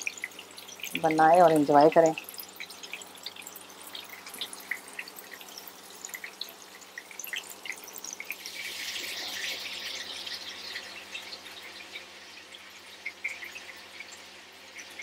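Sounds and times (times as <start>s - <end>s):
oil sizzling in frying pan: 0.0s - 15.0s.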